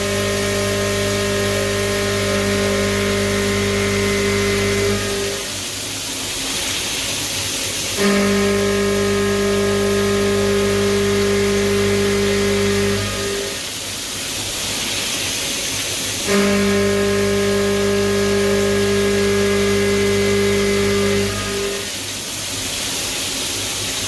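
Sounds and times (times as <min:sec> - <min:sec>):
milling machine humming: 0:00.0 - 0:24.0.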